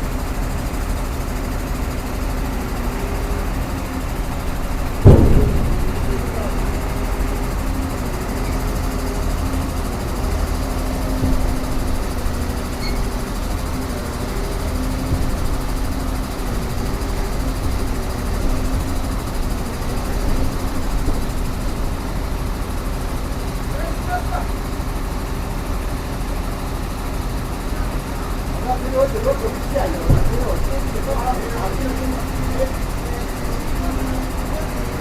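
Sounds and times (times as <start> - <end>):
excavator engine idling: 0.0 - 35.0.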